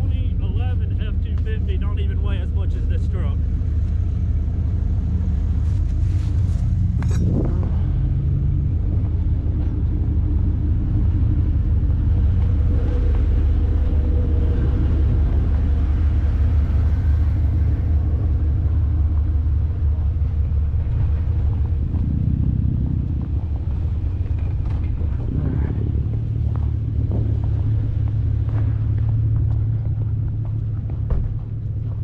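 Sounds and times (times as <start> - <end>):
diesel truck engine idling: 0.0 - 32.0.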